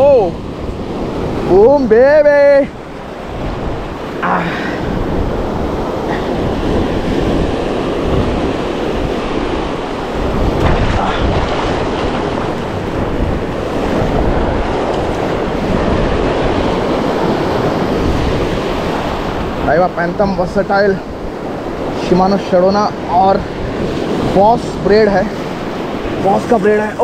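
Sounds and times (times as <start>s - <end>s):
sea surf breaking over rocks: 0.0s - 27.0s
wind buffeting the microphone: 0.0s - 27.0s.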